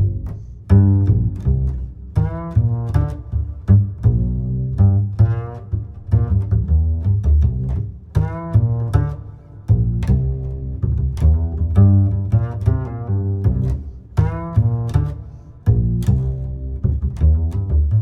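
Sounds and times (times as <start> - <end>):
bowed strings: 0.0 - 18.0
plucked bass: 0.0 - 18.0.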